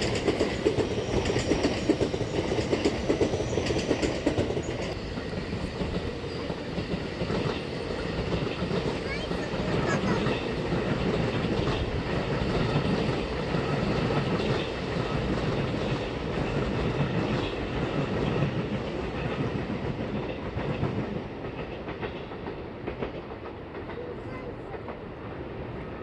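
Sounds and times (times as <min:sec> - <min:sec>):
train wheels rumbling and clicking: 0:00.0 - 0:26.0.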